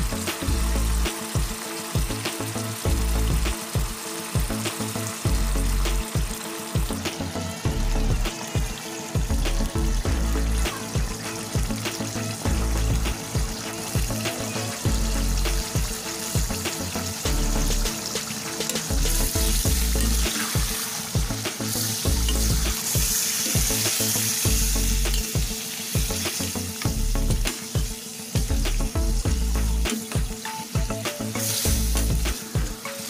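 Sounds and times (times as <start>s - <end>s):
meat sizzling in a pan: 0.0s - 33.0s.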